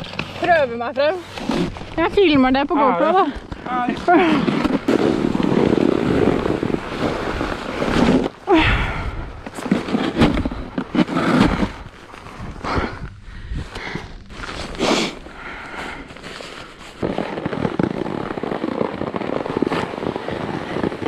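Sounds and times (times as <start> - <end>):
rustling: 0.0 - 21.0
scraping and crunching on snow: 0.0 - 21.0.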